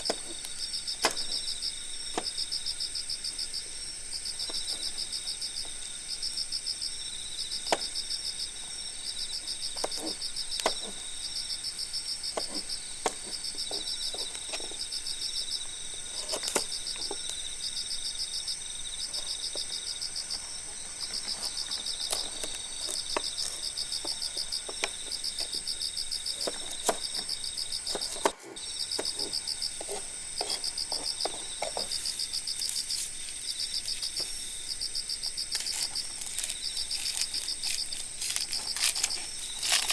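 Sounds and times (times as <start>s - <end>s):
insect chirping in pulsed trills: 0.0s - 39.9s.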